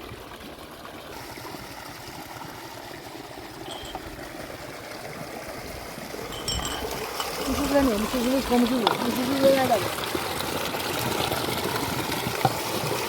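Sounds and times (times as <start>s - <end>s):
spring water trickling: 0.0s - 13.0s.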